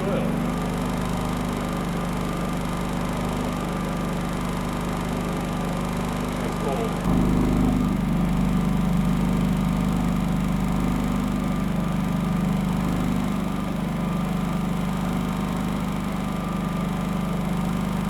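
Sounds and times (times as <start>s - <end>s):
generator engine humming: 0.0s - 18.0s.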